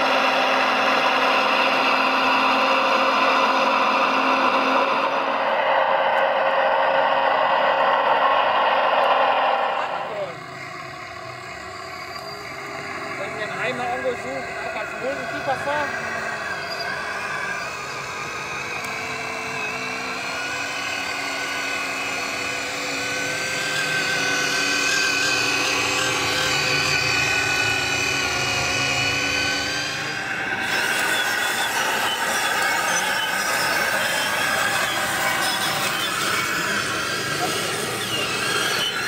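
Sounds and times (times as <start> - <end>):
model excavator harsh whine: 0.0 - 39.0
model truck electric motor whine: 0.0 - 39.0.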